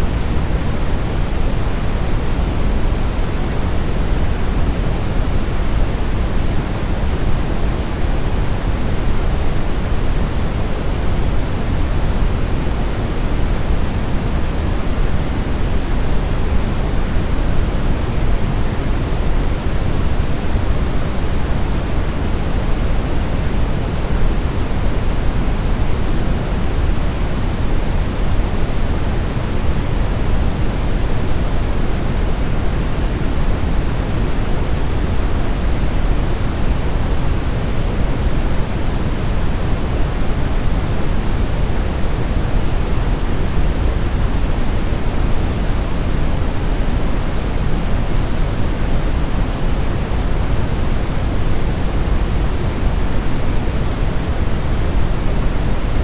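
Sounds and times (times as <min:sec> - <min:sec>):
deep brown noise hiss: 0:00.0 - 0:56.0.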